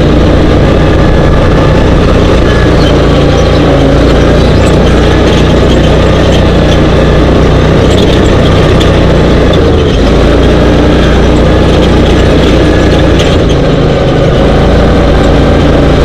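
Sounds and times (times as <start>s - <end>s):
dune buggy engine running: 0.0s - 16.0s.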